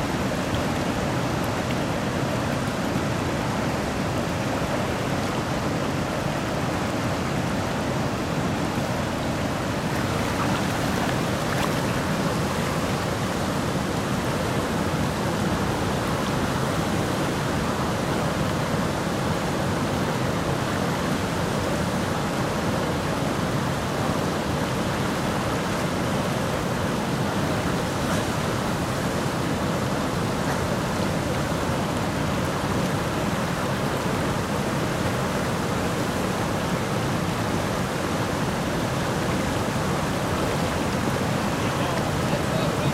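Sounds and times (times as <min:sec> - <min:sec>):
river rapids rushing: 0:00.0 - 0:42.9.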